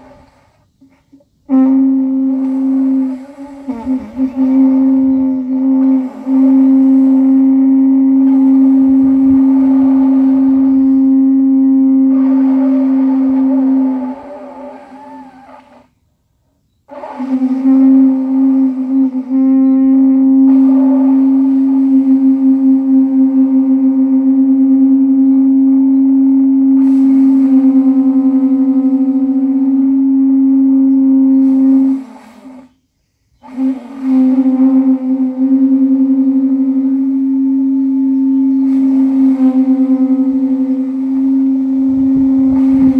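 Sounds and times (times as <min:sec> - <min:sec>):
animal horn wavering note: 0:00.0 - 0:15.9, 0:16.9 - 0:32.8, 0:33.4 - 0:42.9
conch shell low note: 0:00.0 - 0:16.0, 0:16.8 - 0:32.8, 0:33.4 - 0:42.9.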